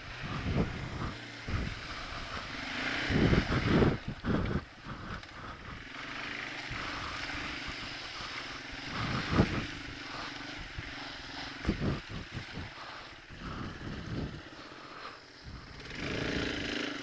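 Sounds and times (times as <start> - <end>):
single-cylinder engine running: 0.0 - 17.0.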